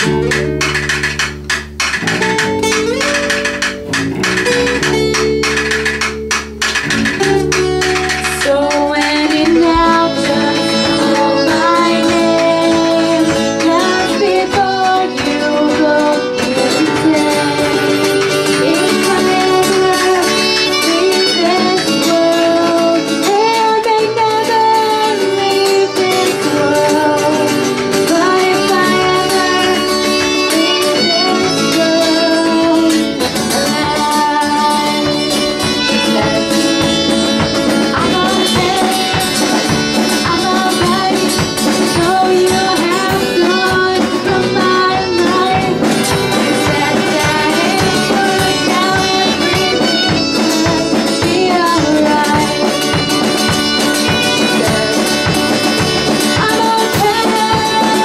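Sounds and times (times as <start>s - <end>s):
bowed violin melody: 0.0s - 22.2s, 28.1s - 56.8s
strummed acoustic guitar: 0.0s - 58.0s
person singing: 2.0s - 58.0s.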